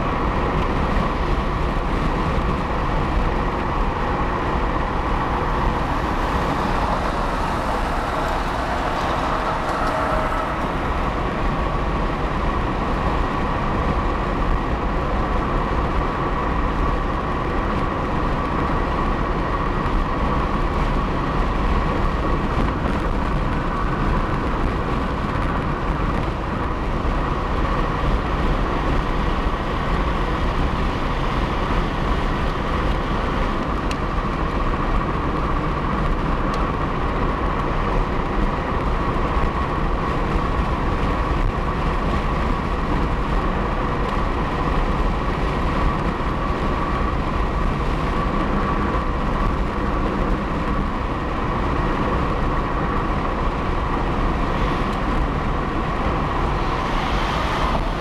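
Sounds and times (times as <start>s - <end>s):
car engine: 0.0s - 58.0s
tyres on concrete road: 0.0s - 58.0s.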